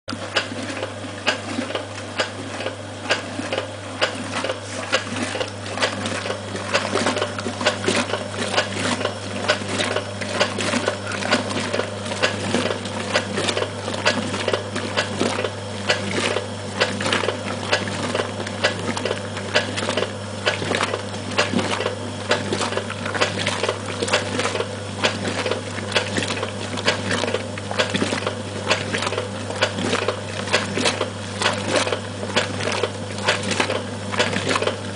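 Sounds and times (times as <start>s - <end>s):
washing machine agitating: 0.1s - 34.9s
water sloshing: 0.1s - 34.9s.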